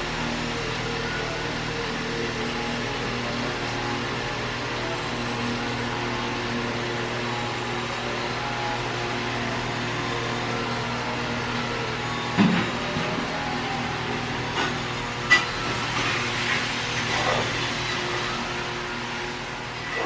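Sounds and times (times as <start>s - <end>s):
machine humming and hissing: 0.0s - 20.0s.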